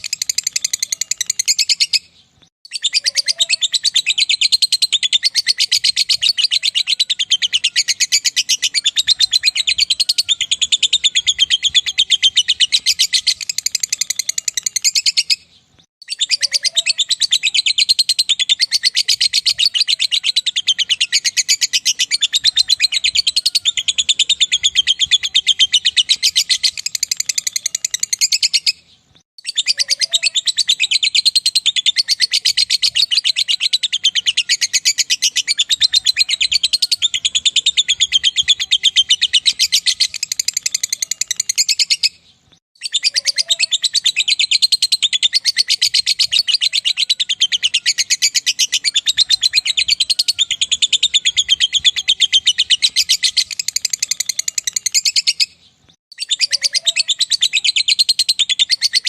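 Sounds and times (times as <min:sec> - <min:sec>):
bird chattering trill: 0:00.0 - 0:42.2, 0:42.8 - 0:59.0.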